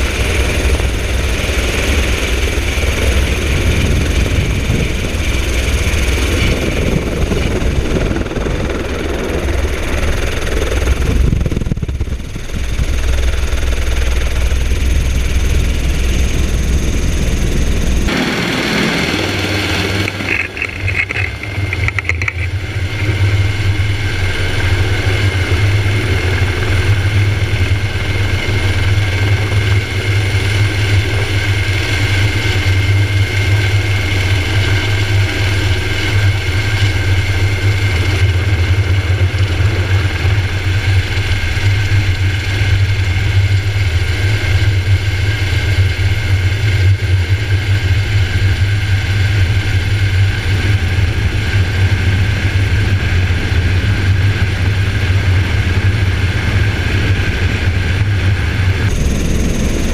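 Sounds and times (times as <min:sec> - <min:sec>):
helicopter drone and whine: 0:00.0 - 0:59.9.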